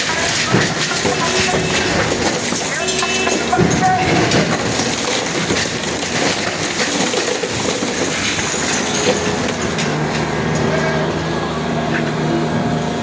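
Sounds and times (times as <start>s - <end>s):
concrete being crushed: 0.0s - 11.2s.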